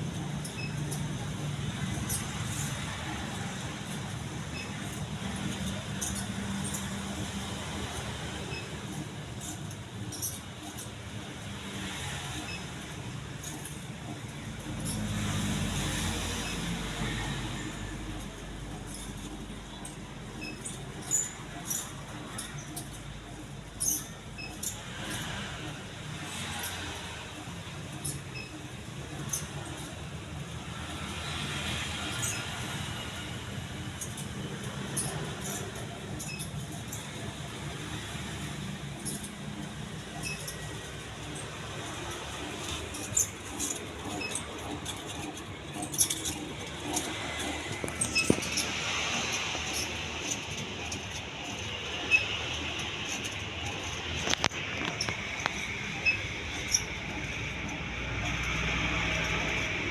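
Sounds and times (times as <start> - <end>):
short high squeaks: 0.0 - 59.9.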